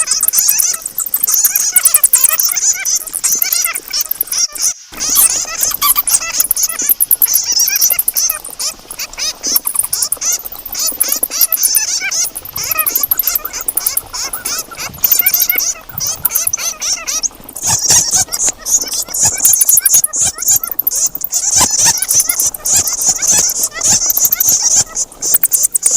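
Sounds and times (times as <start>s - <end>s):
bats squeaking and chirping: 0.0s - 25.9s.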